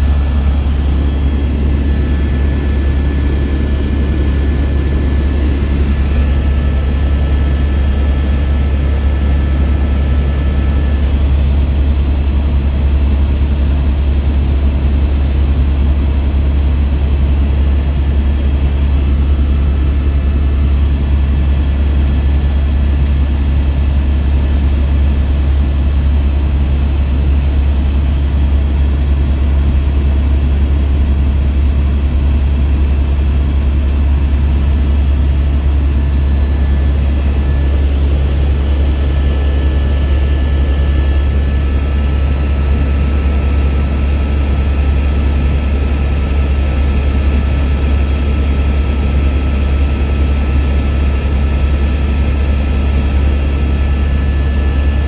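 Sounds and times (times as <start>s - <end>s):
helicopter rotor and engine drone: 0.0s - 55.0s.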